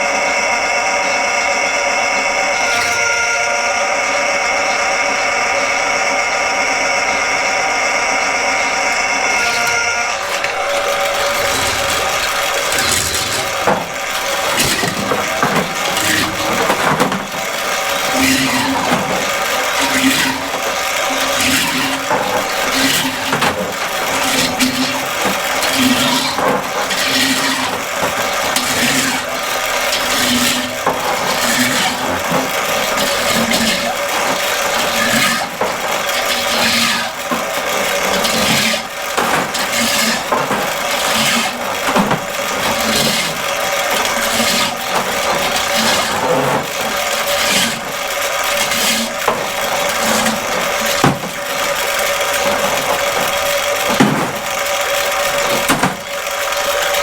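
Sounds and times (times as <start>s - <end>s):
cable rattling and scraping: 0.0s - 4.3s, 5.1s - 57.0s
drain snake motor humming: 0.0s - 57.0s.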